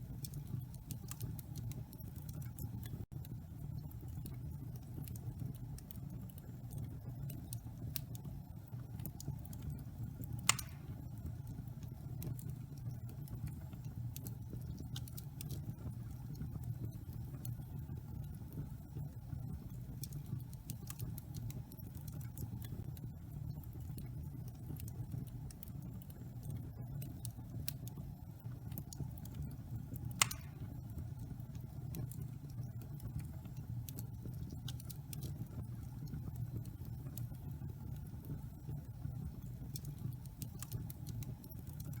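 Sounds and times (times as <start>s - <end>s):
fire crackles: 0.0s - 42.0s.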